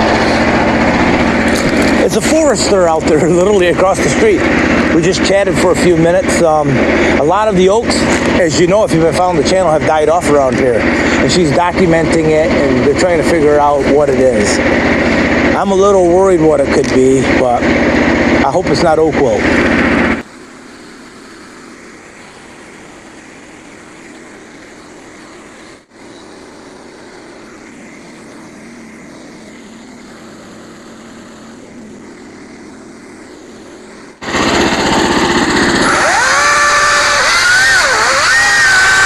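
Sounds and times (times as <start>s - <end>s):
small gasoline engine running: 0.0s - 39.0s.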